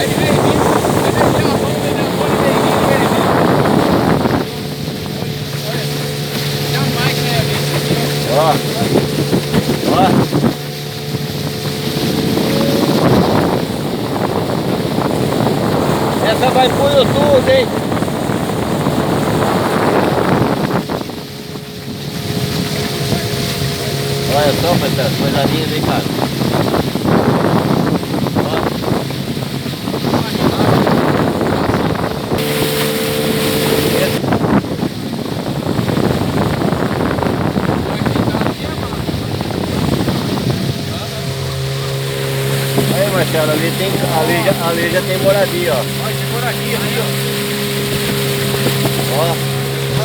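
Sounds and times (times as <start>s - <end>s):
motorboat engine humming: 0.0s - 50.0s
water rushing: 0.0s - 50.0s
wind on microphone: 0.0s - 50.0s.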